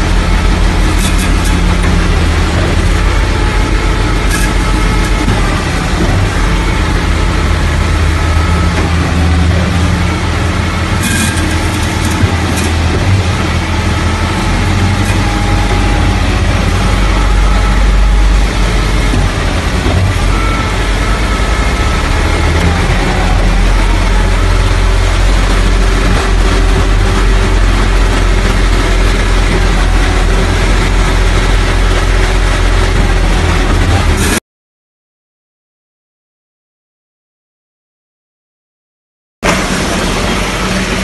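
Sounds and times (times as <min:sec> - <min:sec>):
heavy diesel engines running: 0:00.0 - 0:34.4, 0:39.4 - 0:41.0.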